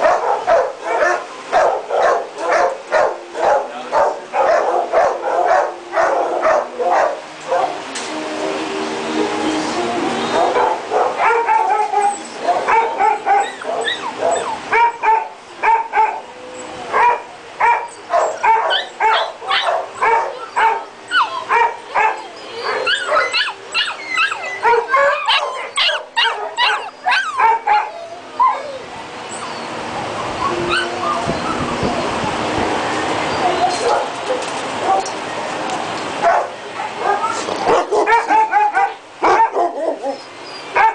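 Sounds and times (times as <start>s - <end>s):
dogs barking and yipping: 0.0s - 7.9s, 10.3s - 35.3s, 36.1s - 40.9s
steady background noise: 0.0s - 40.9s.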